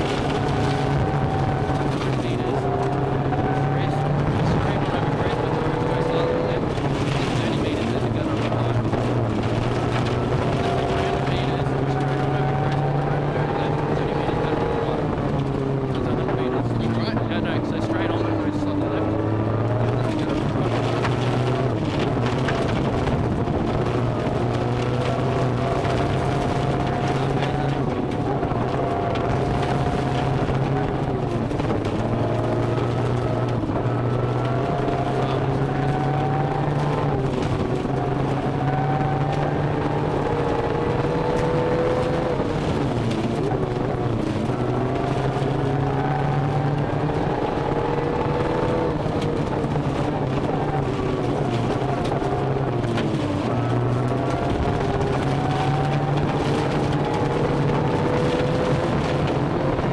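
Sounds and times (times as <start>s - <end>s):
rally car engine revving: 0.0s - 59.9s
tyre and road noise: 0.0s - 59.9s.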